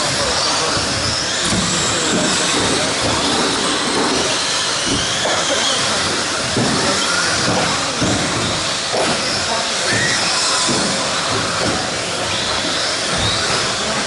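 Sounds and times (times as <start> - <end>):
faint motor whines: 0.0 - 14.0
toy truck motors and tyres hissing: 0.0 - 14.0.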